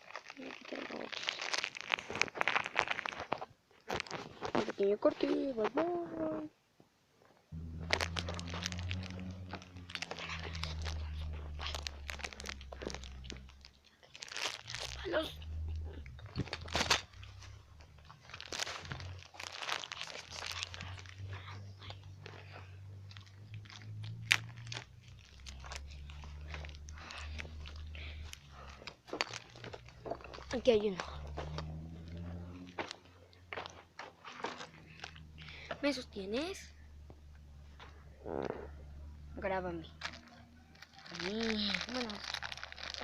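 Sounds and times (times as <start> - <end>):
dry twigs and grass crunching: 0.0 - 5.6, 7.6 - 38.0, 39.5 - 43.0
plastic bag crinkling: 0.0 - 6.0, 7.6 - 36.5, 39.8 - 43.0
low steady hum: 7.5 - 43.0.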